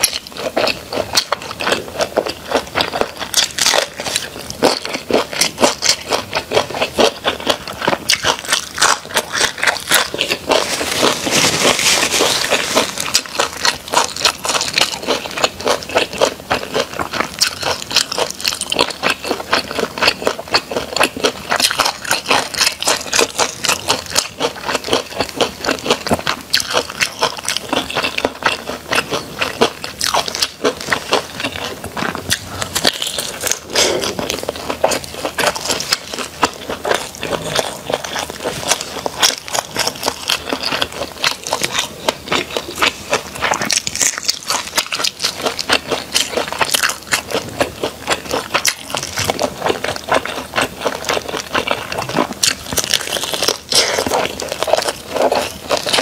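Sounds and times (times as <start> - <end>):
chewing with mouth clicks: 0.0 - 56.0.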